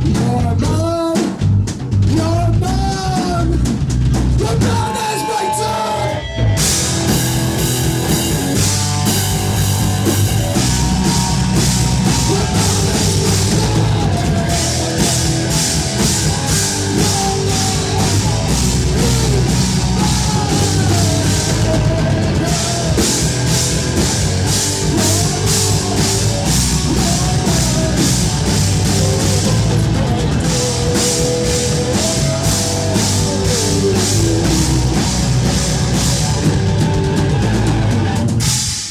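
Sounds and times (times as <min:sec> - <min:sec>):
drum kit beat: 0:00.0 - 0:05.6, 0:06.4 - 0:38.9
heavy rock music: 0:00.0 - 0:38.9.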